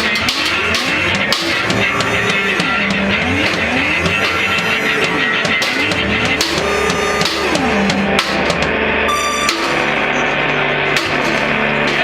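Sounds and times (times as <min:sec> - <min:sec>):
drums and cymbals: 0:00.0 - 0:12.0
live band music: 0:00.0 - 0:12.0.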